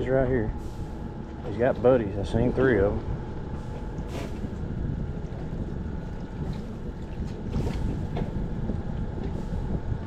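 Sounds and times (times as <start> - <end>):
wind rumble on microphone: 0.0 - 10.0
water lapping at boat: 0.5 - 10.0.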